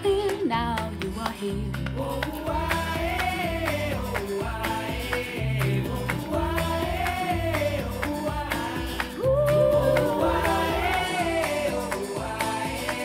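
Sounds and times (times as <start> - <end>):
pop song through speakers: 0.0 - 13.0.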